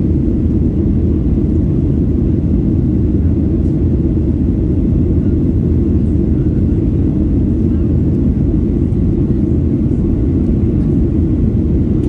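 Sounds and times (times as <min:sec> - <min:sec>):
jet cabin engine roar: 0:00.0 - 0:12.0.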